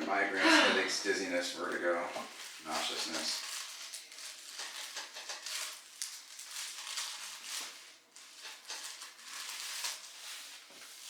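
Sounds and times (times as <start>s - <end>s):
rustling and soft crinkling: 0.1s - 11.0s.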